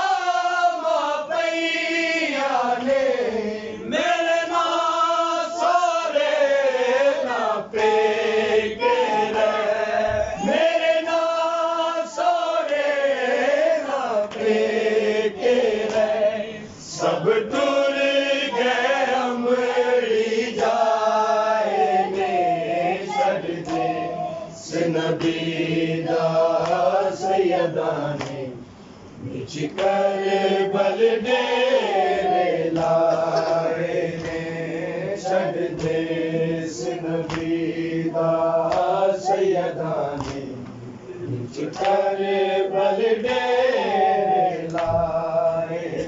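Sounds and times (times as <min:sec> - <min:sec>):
men chanting in unison: 0:00.0 - 0:46.0.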